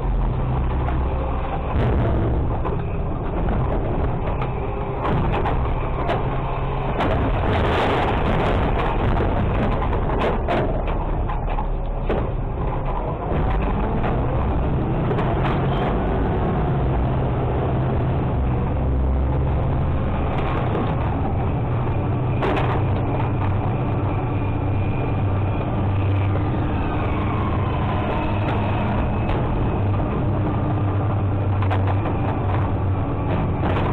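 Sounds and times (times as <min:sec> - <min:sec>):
garbage truck engine running: 0:00.0 - 0:33.9
metal knocks and clanks: 0:00.3 - 0:18.8, 0:19.7 - 0:33.9.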